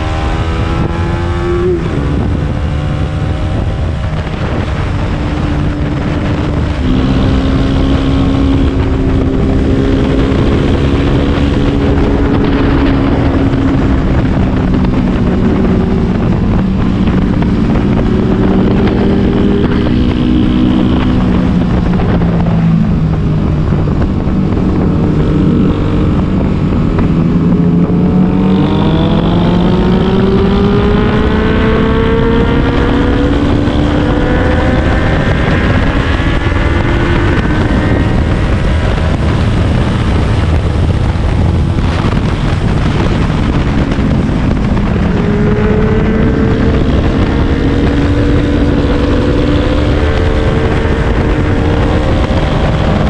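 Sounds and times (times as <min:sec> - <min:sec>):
motorcycle engine and exhaust: 0:00.0 - 0:53.0
wind buffeting microphone: 0:00.0 - 0:53.0.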